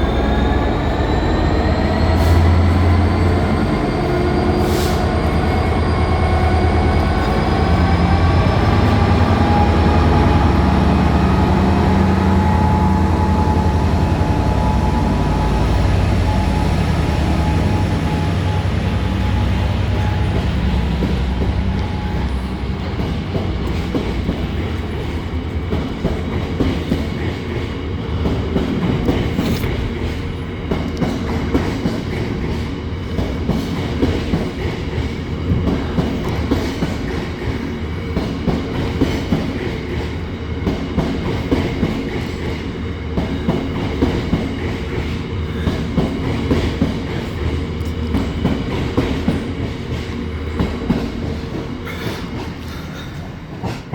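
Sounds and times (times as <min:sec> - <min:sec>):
train rumbling along track: 0:00.0 - 0:53.9.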